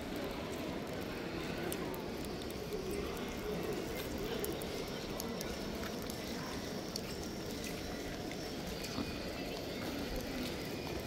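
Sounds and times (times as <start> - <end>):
crowd hubbub: 0.0 - 11.0.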